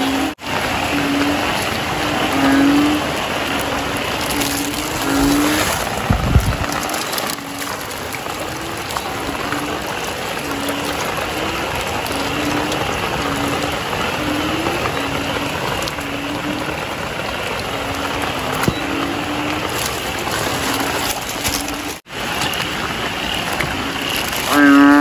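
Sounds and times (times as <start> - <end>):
frogs calling in chorus: 0.0 - 25.0
rain hissing: 0.0 - 25.0.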